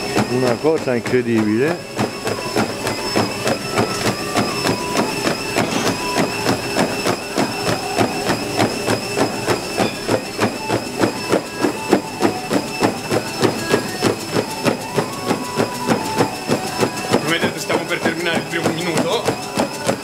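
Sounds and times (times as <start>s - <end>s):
footfalls on treadmill belt: 0.0s - 20.0s
treadmill whine: 0.0s - 20.0s.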